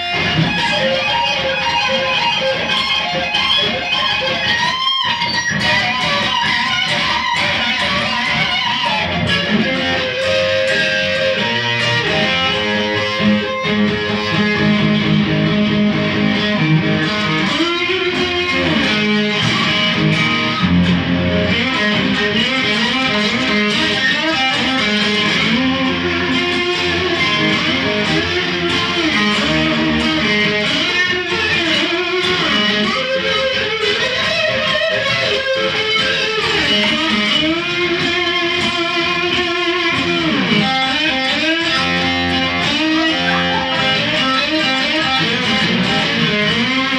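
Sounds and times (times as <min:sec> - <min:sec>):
electric guitar melody: 0:00.0 - 0:46.9.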